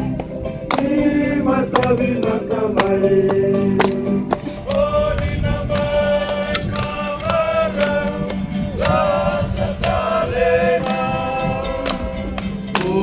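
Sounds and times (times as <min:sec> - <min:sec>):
choir singing in harmony: 0:00.0 - 0:12.1, 0:12.7 - 0:13.0.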